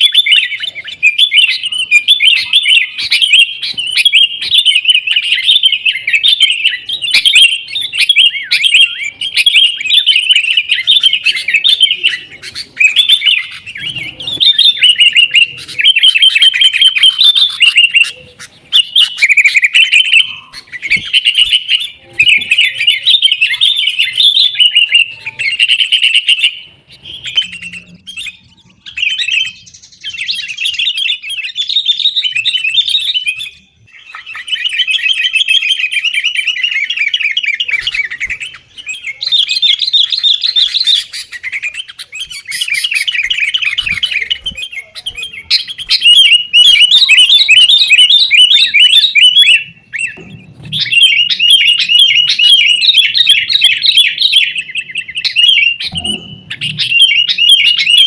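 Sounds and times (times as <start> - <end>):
bulbul singing rapid notes: 0.0 - 29.9, 34.6 - 58.0.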